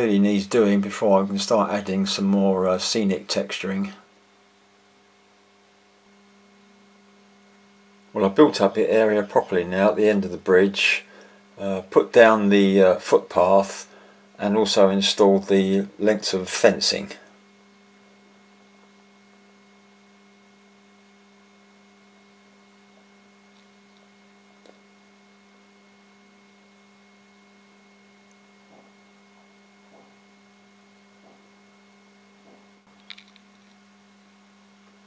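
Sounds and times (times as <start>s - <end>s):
faint electrical hum: 0.0s - 35.0s.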